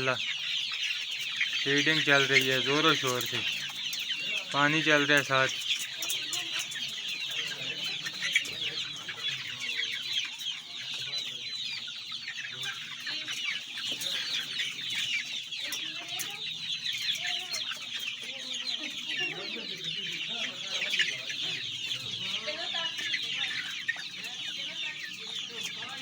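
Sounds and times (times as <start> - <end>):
chicks peeping and chirping: 0.0 - 26.0.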